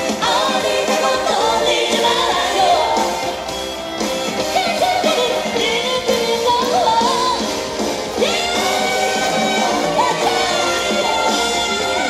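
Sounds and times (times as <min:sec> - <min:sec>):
woman singing pop song: 0:00.0 - 0:03.4, 0:04.2 - 0:12.0.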